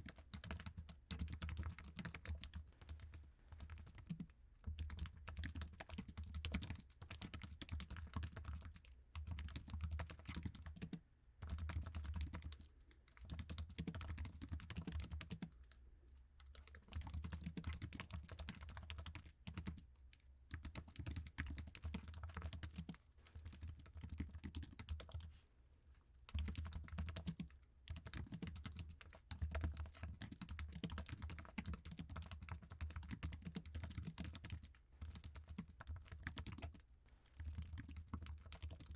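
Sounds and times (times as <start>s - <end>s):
keyboard typing: 0.0s - 15.6s, 16.4s - 19.8s, 20.5s - 25.4s, 26.3s - 38.9s.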